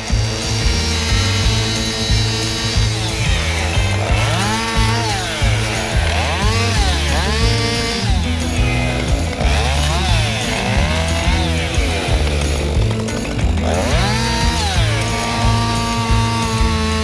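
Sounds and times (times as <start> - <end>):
background music: 0.0 - 17.0
chainsaw cutting wood: 0.0 - 17.0.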